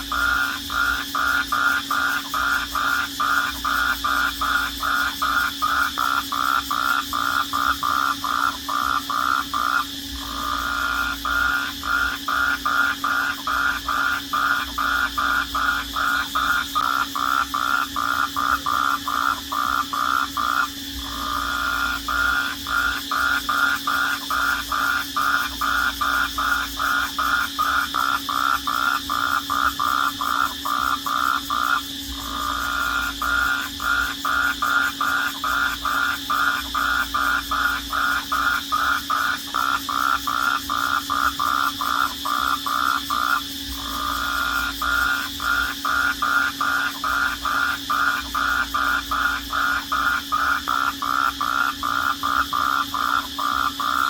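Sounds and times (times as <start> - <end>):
background hum of calling animals: 0.0 - 54.0
rhythmic animal chirping: 0.0 - 54.0.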